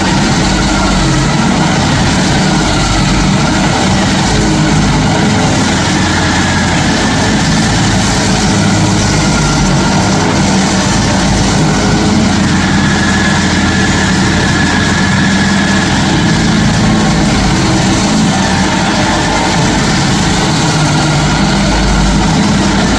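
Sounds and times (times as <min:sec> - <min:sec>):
stump grinder running: 0:00.0 - 0:22.9.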